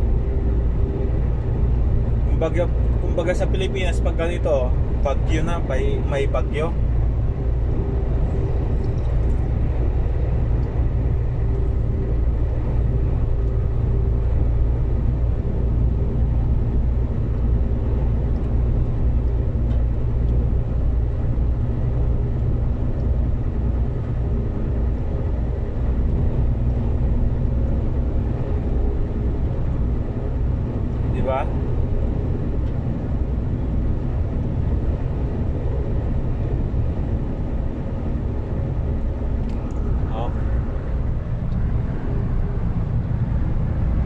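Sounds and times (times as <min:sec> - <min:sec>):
truck engine and road drone: 0:00.0 - 0:44.0.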